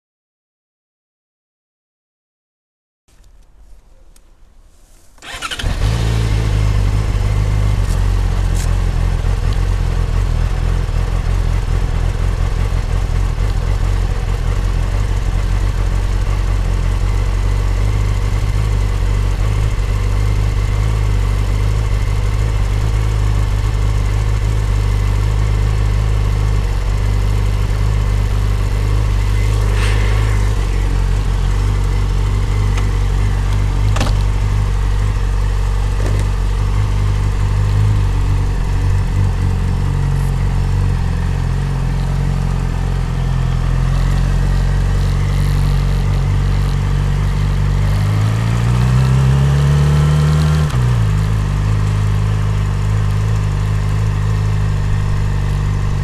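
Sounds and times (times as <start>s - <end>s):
motorcycle engine starting and idling: 5.2s - 56.0s.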